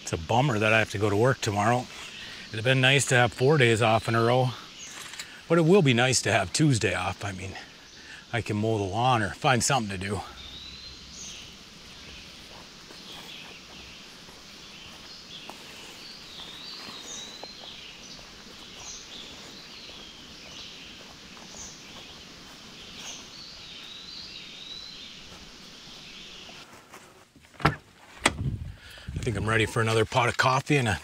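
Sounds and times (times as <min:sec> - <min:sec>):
songbird warbling: 0:00.0 - 0:26.6
woodland background hiss: 0:00.0 - 0:31.0
faint footsteps on forest floor: 0:00.2 - 0:31.0.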